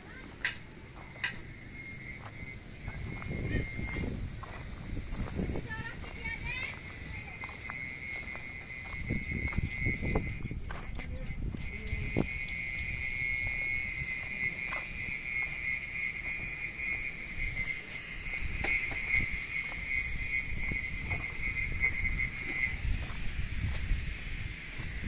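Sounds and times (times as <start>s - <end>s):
steady high-pitched buzz: 0.0s - 25.0s
footsteps on dirt: 0.6s - 25.0s
wind rumble on microphone: 2.4s - 15.1s, 17.4s - 25.0s.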